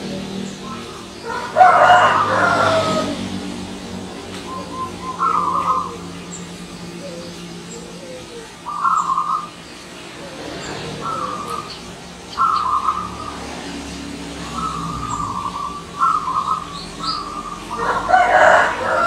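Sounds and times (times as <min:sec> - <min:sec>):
steady low hum: 0:00.0 - 0:18.1
dove cooing: 0:00.0 - 0:19.0.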